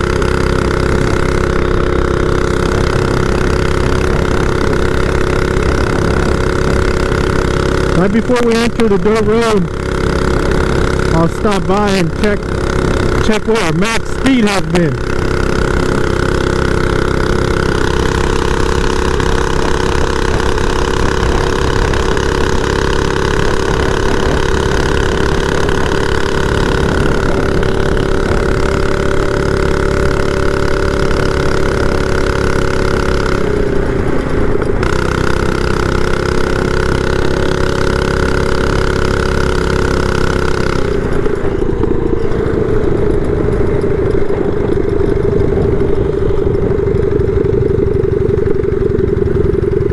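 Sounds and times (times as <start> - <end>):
small engine running loud: 0.0 - 49.9.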